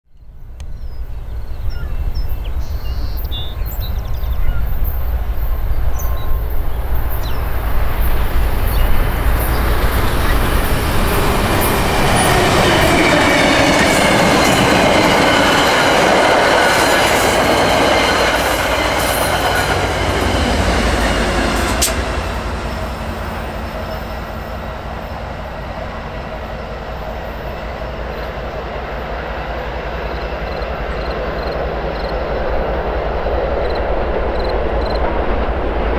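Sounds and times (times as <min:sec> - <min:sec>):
diesel locomotive drone: 0:00.2 - 0:35.9
train wheels rumbling on rails: 0:01.0 - 0:35.9.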